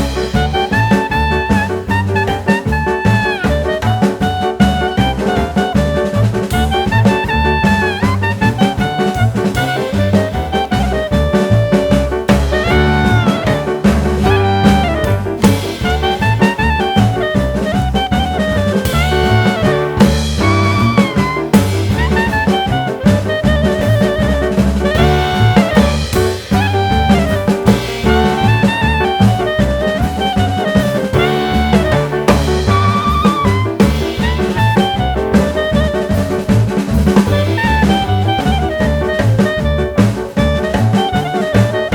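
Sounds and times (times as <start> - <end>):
swing jazz music: 0.0 - 41.9.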